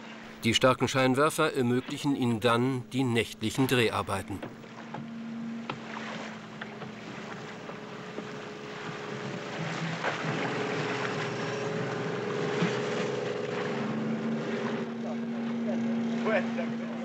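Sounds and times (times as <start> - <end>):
sea water splashing: 0.0 - 17.0
ship engine hum: 0.0 - 17.0.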